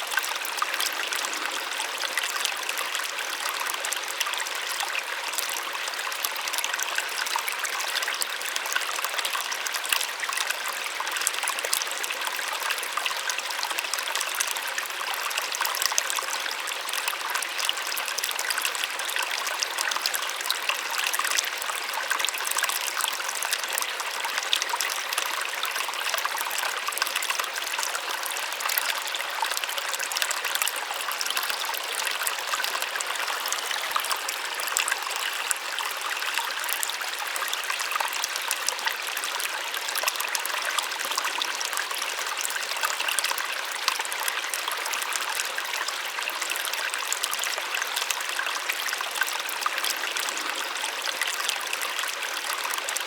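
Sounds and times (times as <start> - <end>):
small waterfall splashing: 0.0 - 53.0.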